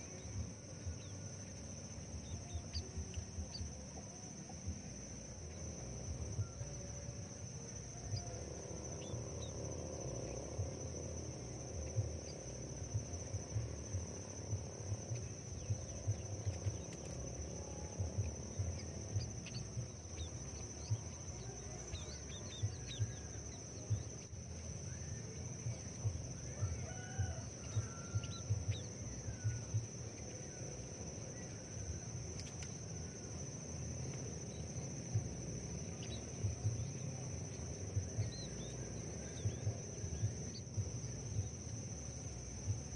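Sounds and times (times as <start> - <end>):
high insect drone: 0.0 - 42.9
small birds chirping: 0.0 - 42.9.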